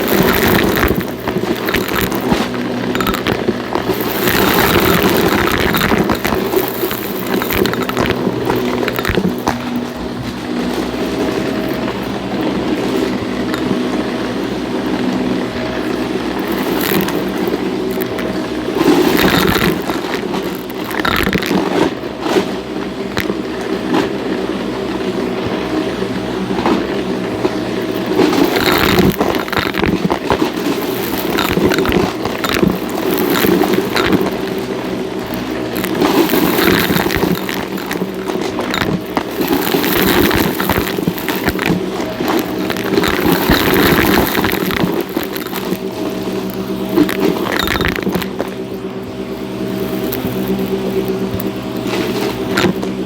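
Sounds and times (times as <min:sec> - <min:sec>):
debris crackling and rattling: 0:00.0 - 0:24.3, 0:25.4 - 0:53.0
vacuum cleaner motor hum: 0:00.0 - 0:53.0.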